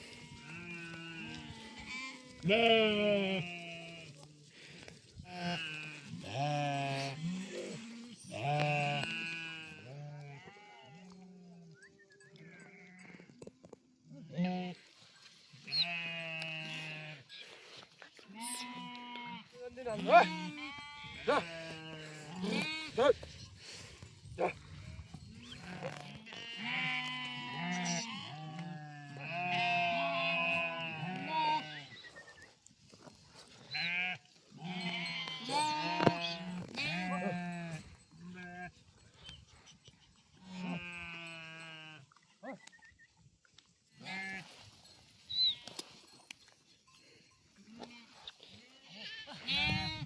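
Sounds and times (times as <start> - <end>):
farm animal bleating: 0.0 - 4.2, 5.2 - 13.3, 14.1 - 14.9, 15.6 - 17.6, 18.2 - 32.4, 33.7 - 42.7, 44.0 - 44.6, 45.3 - 46.0, 47.6 - 50.0.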